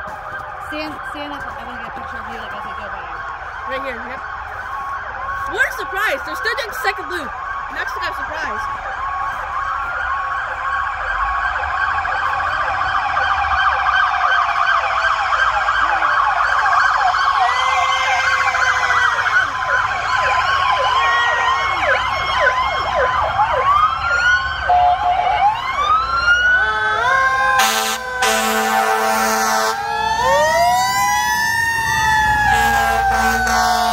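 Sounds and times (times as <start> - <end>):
emergency vehicle sirens wailing: 0.0 - 33.9.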